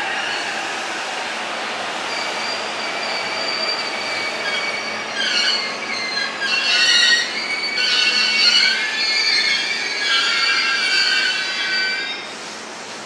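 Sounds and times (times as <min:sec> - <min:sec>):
electric train high whine: 0:00.0 - 0:13.0
train wheels squealing: 0:00.1 - 0:00.6, 0:02.0 - 0:12.6.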